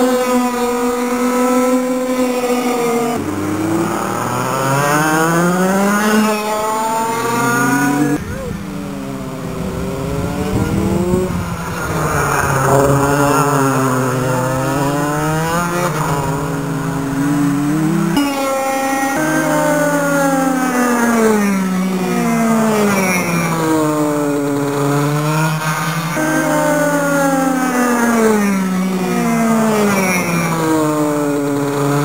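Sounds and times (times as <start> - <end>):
racing kart engines: 0.0 - 32.0.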